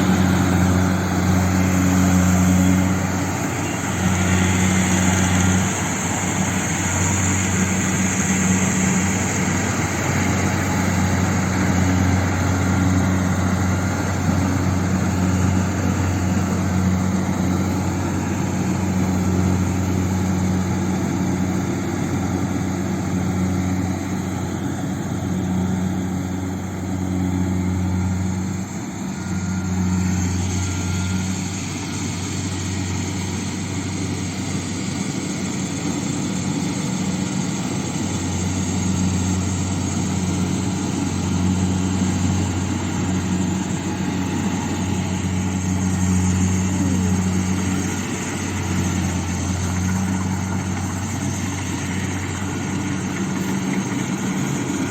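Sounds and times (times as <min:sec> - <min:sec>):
combine harvester engine running: 0:00.0 - 0:54.9.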